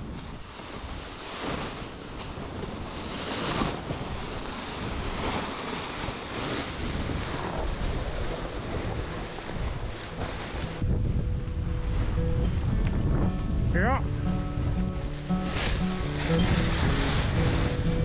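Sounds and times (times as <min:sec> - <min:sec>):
sea water rushing: 0:00.0 - 0:18.0
wind buffeting microphone: 0:00.0 - 0:18.0.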